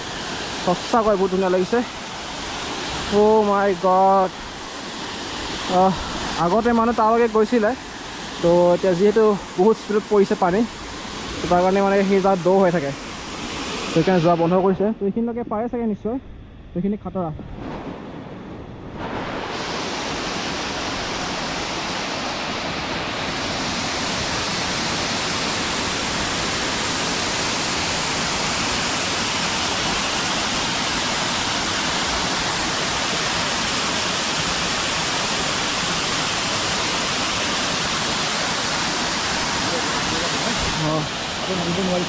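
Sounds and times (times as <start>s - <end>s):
waterfall rushing: 0.0s - 14.8s, 19.0s - 42.0s.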